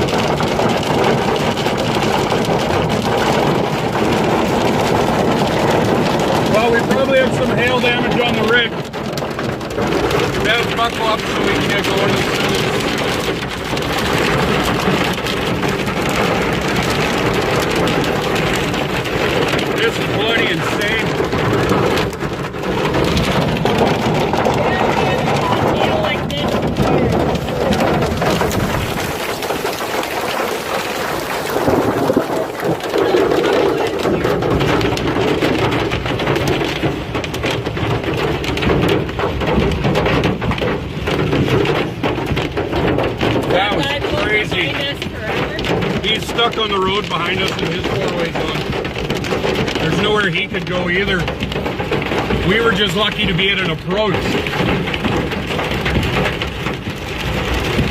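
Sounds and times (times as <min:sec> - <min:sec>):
hail drumming on vehicle roof: 0:00.0 - 0:57.9.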